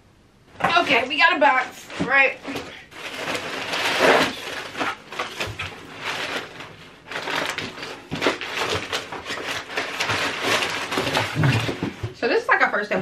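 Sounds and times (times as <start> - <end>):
cardboard flaps rustling: 0.6 - 12.2
packing paper crackling: 0.7 - 12.2.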